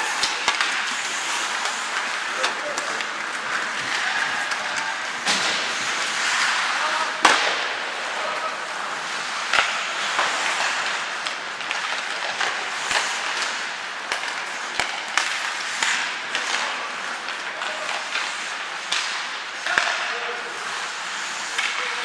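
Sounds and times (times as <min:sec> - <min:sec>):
arena noise: 0:00.0 - 0:22.0
hockey sticks and puck clacking: 0:00.0 - 0:22.0
skates hissing on ice: 0:00.0 - 0:22.0.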